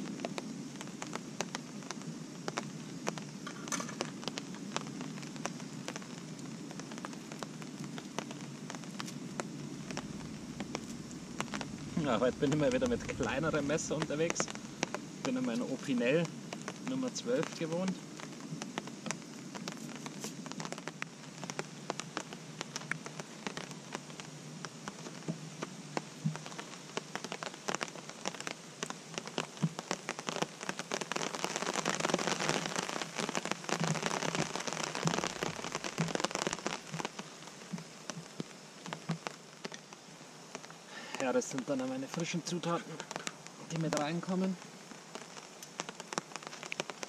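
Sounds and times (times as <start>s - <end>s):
rain pattering on a tarp: 0.0s - 47.0s.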